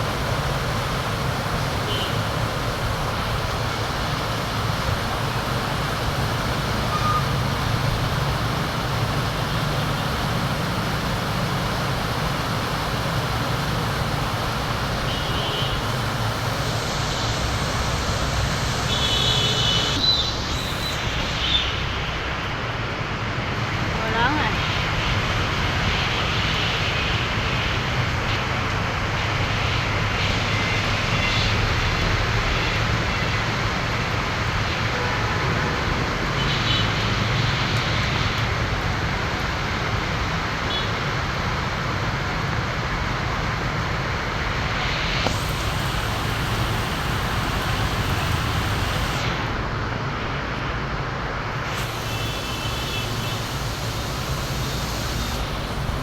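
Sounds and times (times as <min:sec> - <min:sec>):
heavy rain: 0:00.0 - 0:56.0
road traffic hum: 0:00.0 - 0:56.0.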